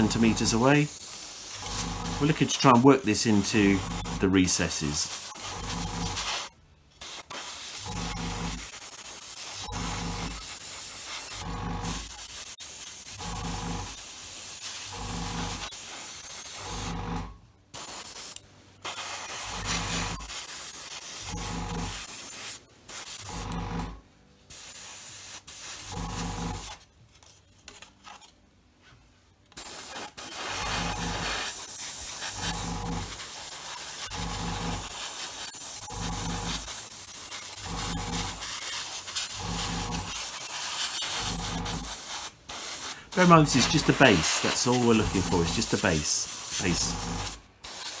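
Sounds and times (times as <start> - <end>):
airbrush spraying hiss: 0.0 - 16.8, 17.8 - 23.3, 24.5 - 26.7, 29.6 - 48.0.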